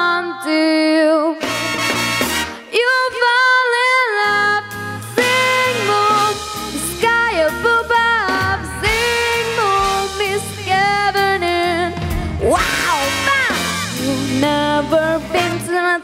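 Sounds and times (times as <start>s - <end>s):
girl singing into a microphone: 0.0s - 1.4s, 2.7s - 16.0s
instrumental backing track: 1.2s - 16.0s.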